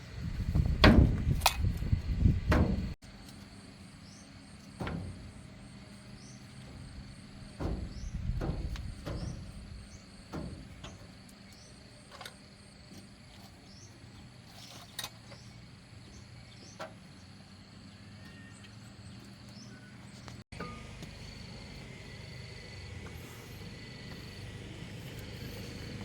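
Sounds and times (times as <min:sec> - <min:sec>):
insects chirping: 0:00.0 - 0:19.9, 0:20.5 - 0:26.0.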